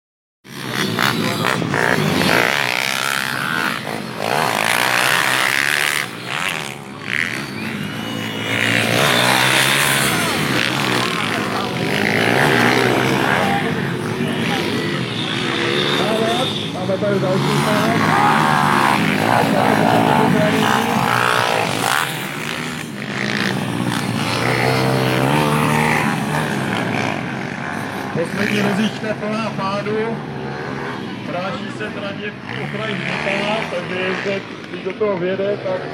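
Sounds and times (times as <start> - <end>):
pit bike engines revving: 0.5 - 35.9.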